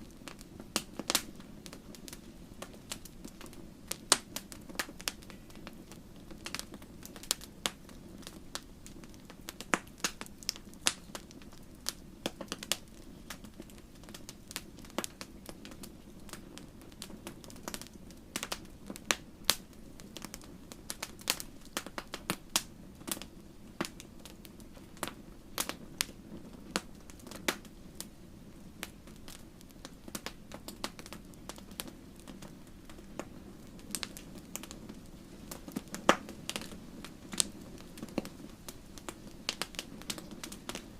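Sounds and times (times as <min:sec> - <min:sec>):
low rush of flames: 0:00.0 - 0:40.9
wood fire pops and snaps: 0:00.0 - 0:40.9.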